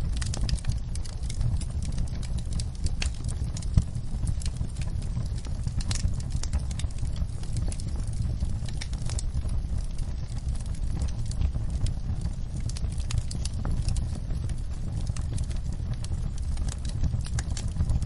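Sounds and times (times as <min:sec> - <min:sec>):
low rumble of flames: 0:00.0 - 0:18.0.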